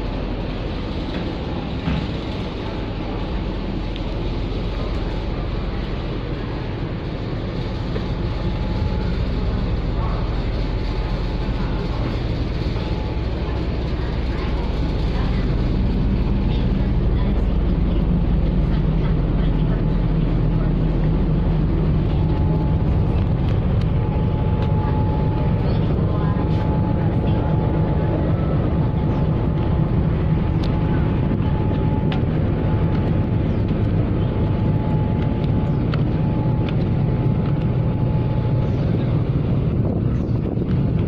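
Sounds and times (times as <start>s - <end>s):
faint steady whine: 0.0s - 41.0s
ship engine rumble: 0.0s - 41.0s.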